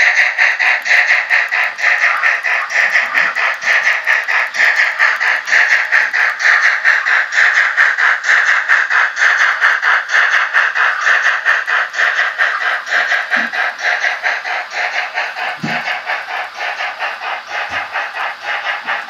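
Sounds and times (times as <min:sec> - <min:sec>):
model train rattling past: 0:00.0 - 0:19.0.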